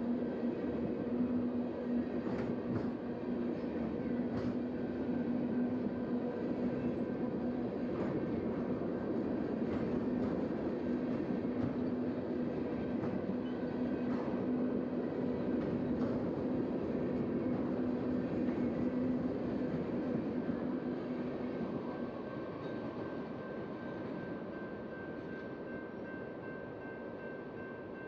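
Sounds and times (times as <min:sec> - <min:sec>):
freight train cars rumbling: 0:00.0 - 0:25.3.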